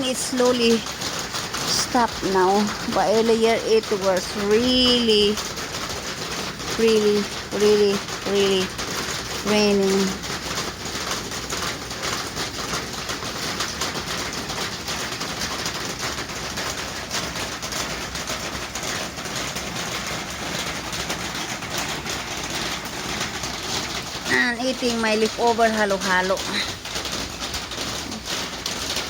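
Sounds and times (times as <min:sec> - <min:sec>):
light rain pattering: 0:00.0 - 0:29.0
water dripping: 0:00.0 - 0:29.0.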